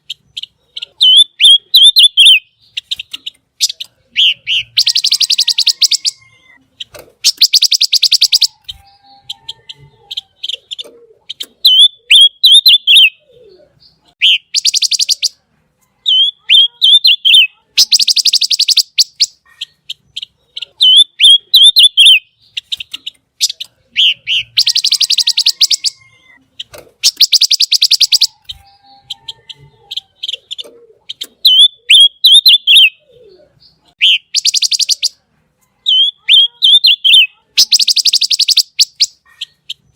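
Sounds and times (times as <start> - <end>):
bird singing harsh trills: 0.0 - 15.4, 16.0 - 35.2, 35.8 - 39.9.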